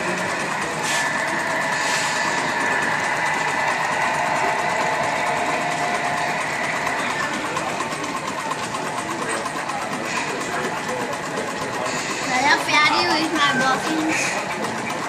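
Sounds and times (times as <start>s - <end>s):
model steam engines clattering: 0.0s - 15.0s.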